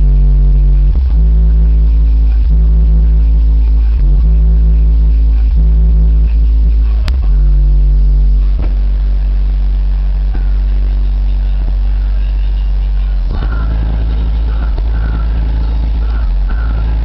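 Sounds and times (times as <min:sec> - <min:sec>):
heavy bass music from subwoofers: 0:00.0 - 0:17.0.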